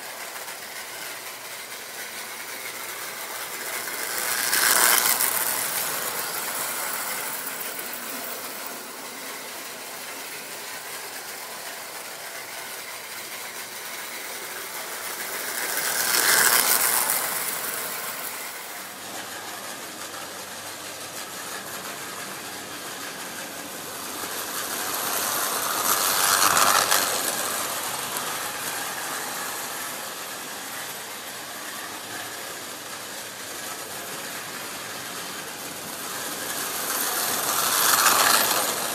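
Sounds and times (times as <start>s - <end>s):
toy trains rattling on track: 0.0s - 38.9s.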